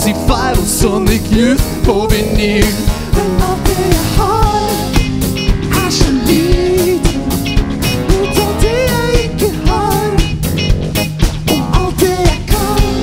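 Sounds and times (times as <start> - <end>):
person singing: 0.0 - 5.0, 5.6 - 7.4, 8.0 - 10.5, 11.5 - 13.0
drums playing steady beat: 0.0 - 13.0
electric guitars: 0.0 - 13.0
keyboards: 0.0 - 13.0.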